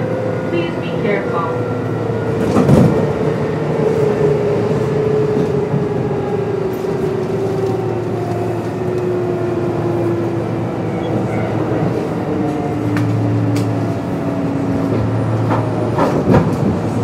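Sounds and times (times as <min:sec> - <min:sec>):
wheel and track rumble: 0:00.0 - 0:17.0.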